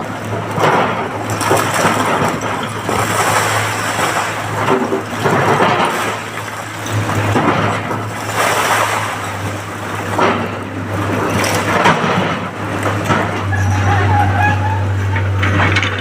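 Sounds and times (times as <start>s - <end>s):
excavator diesel engine hum: 0.0s - 16.0s.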